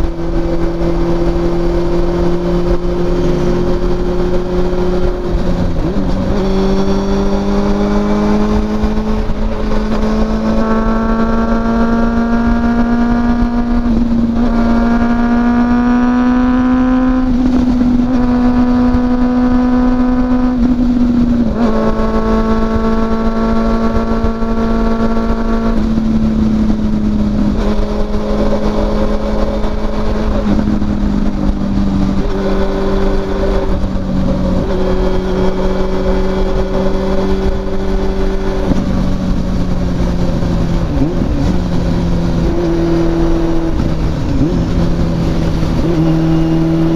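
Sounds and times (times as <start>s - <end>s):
motorcycle engine at high revs: 0.0s - 46.9s
road rumble: 0.0s - 46.9s
wind: 0.0s - 46.9s.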